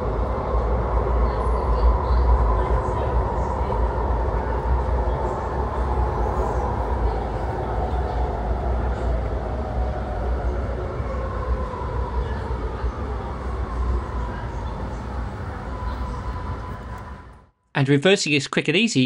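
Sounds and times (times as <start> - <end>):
train wheels rumbling on rail: 0.0 - 17.4.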